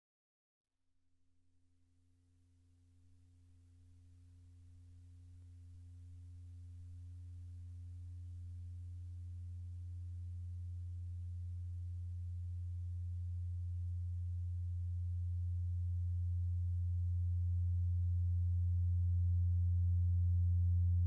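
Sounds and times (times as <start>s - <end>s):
low steady electronic tone: 2.4s - 21.0s.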